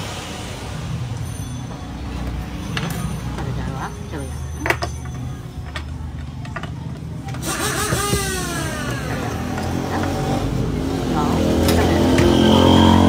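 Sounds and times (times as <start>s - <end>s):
traffic passing by: 0.0s - 13.0s
vehicle engine humming: 0.0s - 13.0s.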